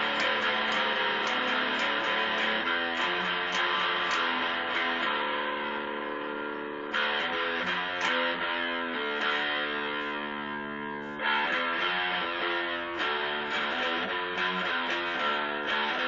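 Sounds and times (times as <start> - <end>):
electric guitar chords strummed: 0.0 - 16.0.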